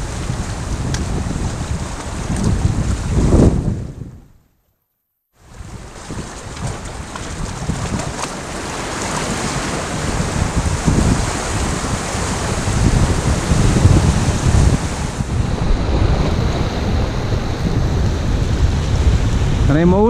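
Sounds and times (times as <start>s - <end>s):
ocean surf on a beach: 0.0s - 4.1s, 5.4s - 20.0s
wind buffeting microphone: 0.0s - 4.5s, 5.4s - 20.0s.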